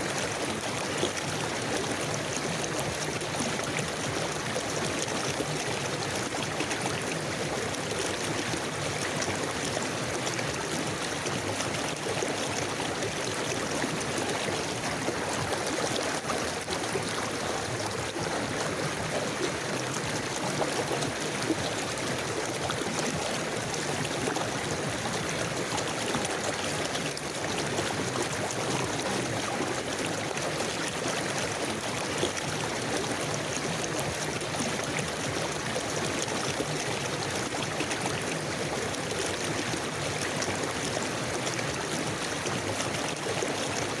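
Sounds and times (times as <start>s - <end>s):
river water rushing over rocks: 0.3s - 44.0s.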